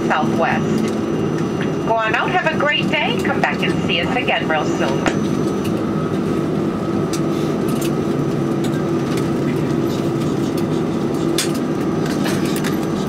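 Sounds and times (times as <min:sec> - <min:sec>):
airplane cabin engine hum: 0:00.0 - 0:13.0.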